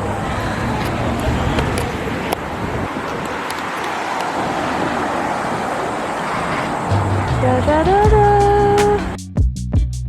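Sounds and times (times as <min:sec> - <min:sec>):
outdoor background din: 0:00.0 - 0:09.2
wind buffeting microphone: 0:00.0 - 0:09.2.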